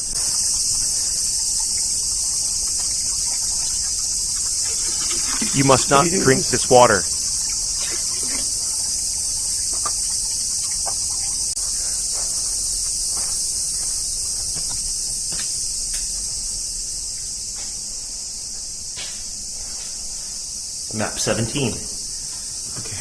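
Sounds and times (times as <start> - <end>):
cicadas chorus: 0.0 - 23.0.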